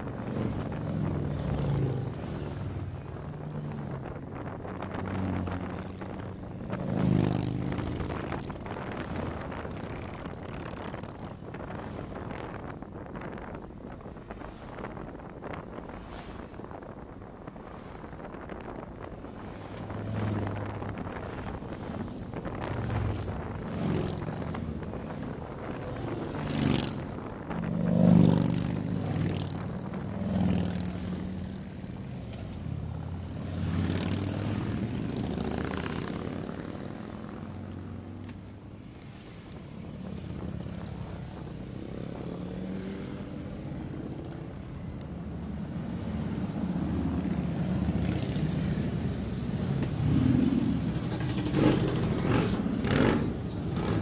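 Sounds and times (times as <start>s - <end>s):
motorcycles passing by: 0.0s - 54.0s.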